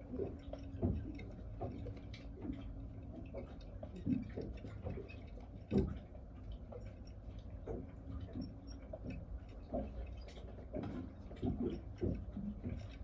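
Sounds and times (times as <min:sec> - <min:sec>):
low steady hum: 0:00.0 - 0:13.0
light knocks and clicks: 0:00.2 - 0:13.0.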